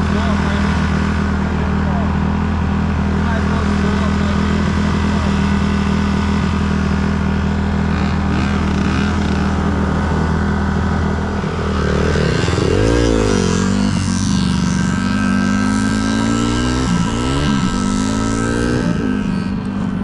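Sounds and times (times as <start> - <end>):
small motorcycle engine: 0.0 - 20.0.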